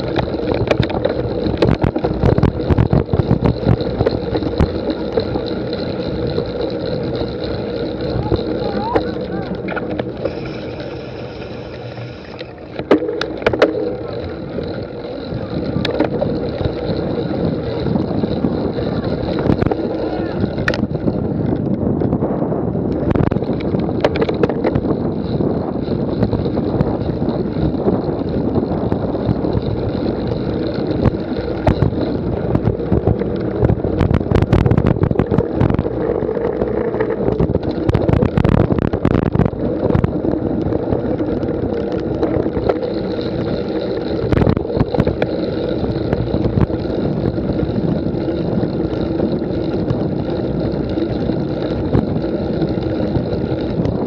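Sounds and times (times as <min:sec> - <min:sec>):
bike rattling over rough ground: 0:00.0 - 0:54.0
wind buffeting microphone: 0:00.0 - 0:54.0.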